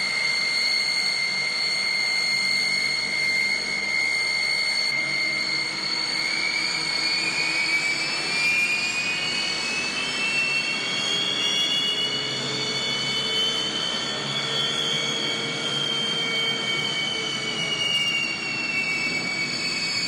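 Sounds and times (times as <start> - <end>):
jet engines rushing and whining: 0.0 - 20.0.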